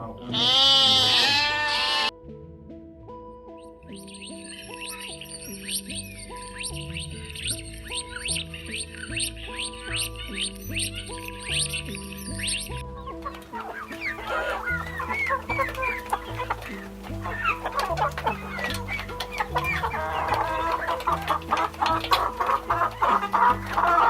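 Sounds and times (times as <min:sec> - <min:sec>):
background music with bass: 0:00.0 - 0:24.0
chickens clucking: 0:04.3 - 0:24.0.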